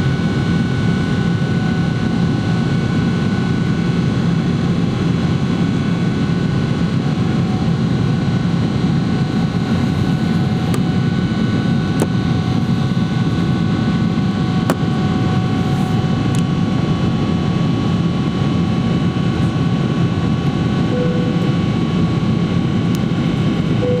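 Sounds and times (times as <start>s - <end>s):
faint engine whine: 0.0s - 24.0s
jet engines roaring: 3.5s - 24.0s.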